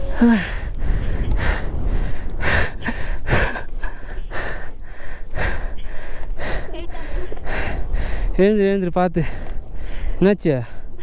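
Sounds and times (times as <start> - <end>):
wind buffeting microphone: 0.0 - 11.0
heavy gasping breaths: 0.1 - 8.4, 9.2 - 11.0.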